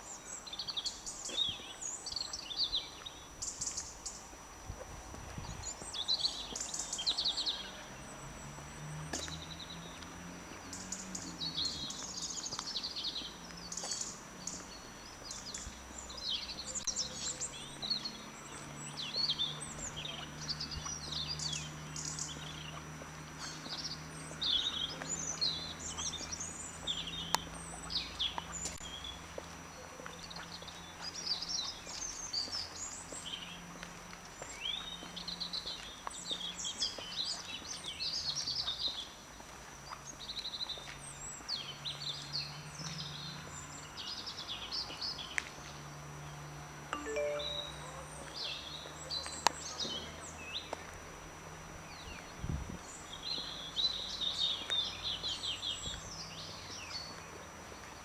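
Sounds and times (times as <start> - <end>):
small songbirds chirping: 0.0 - 4.4, 5.4 - 46.4, 51.8 - 58.0.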